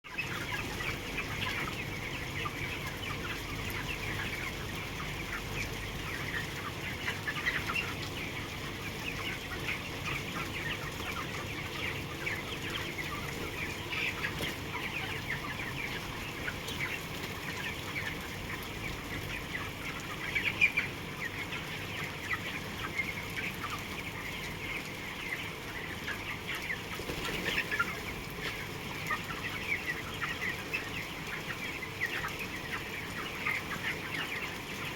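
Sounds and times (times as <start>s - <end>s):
chickens clucking and chirping: 0.1s - 34.9s.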